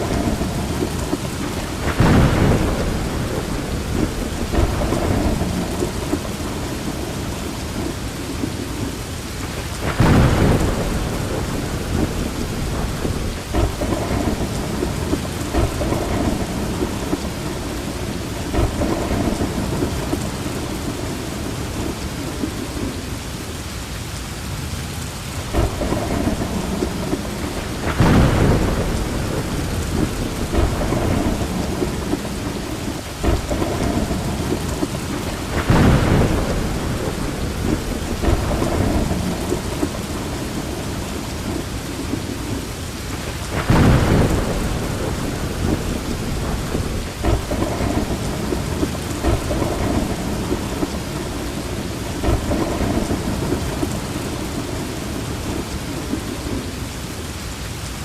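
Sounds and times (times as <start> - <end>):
rolling thunder: 0.0 - 23.2, 25.3 - 56.8
steady rain: 0.0 - 58.0.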